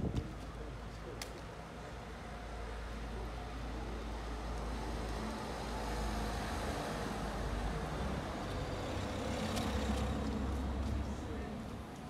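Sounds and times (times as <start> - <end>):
traffic rumbling: 0.0 - 12.0.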